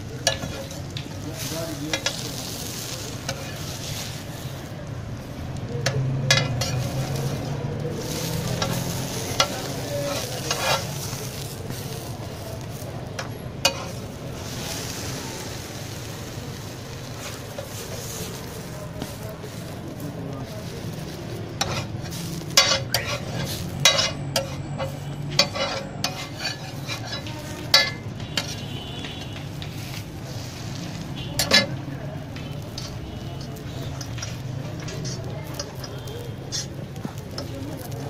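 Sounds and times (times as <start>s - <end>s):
burgers sizzling on a griddle: 0.0s - 38.0s
metal spatula scraping a griddle: 0.0s - 38.0s.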